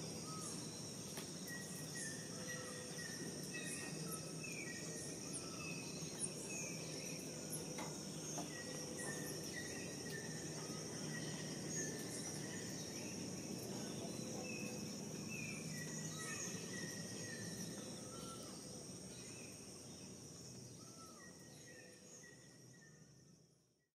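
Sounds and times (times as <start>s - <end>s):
insects trilling: 0.0s - 23.5s.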